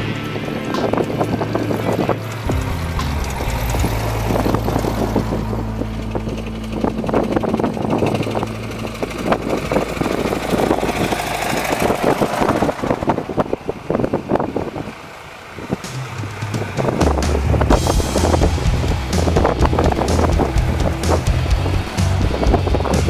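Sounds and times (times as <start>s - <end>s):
tractor engines running: 0.0s - 23.0s.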